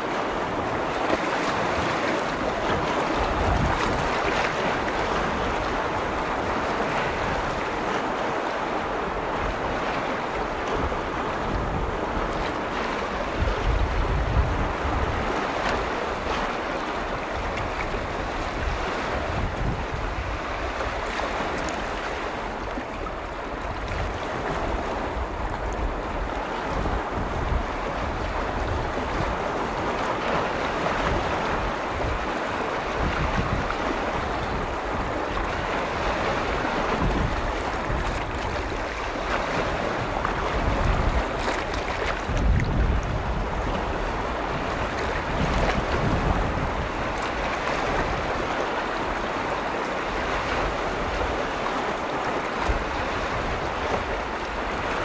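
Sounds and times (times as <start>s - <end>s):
lake waves washing against shore: 0.0s - 55.0s
wind buffeting microphone: 0.0s - 55.0s.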